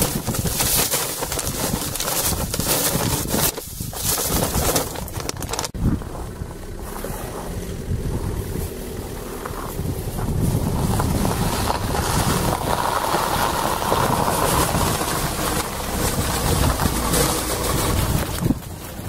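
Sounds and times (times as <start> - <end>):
car engine and tyre noise: 0.0 - 19.0
wind buffeting microphone: 0.0 - 19.0.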